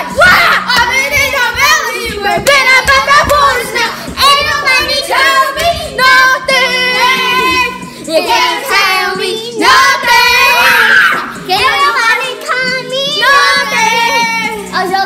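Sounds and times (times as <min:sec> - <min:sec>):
children singing loudly: 0:00.0 - 0:15.0
country rap song from speaker: 0:00.0 - 0:15.0.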